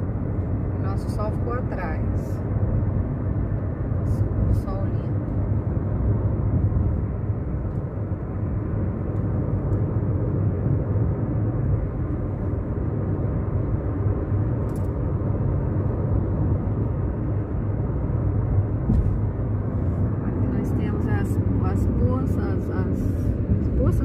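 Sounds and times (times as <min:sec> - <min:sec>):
car road noise from inside: 0:00.0 - 0:24.0.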